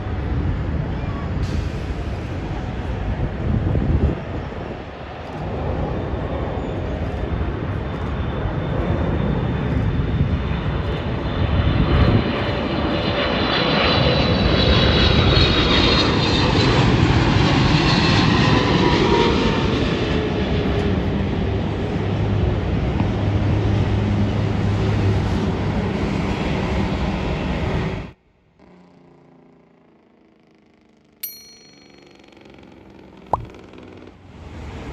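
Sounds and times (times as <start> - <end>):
jet rumble: 0.0 - 28.1
jet engines whining: 0.0 - 28.2.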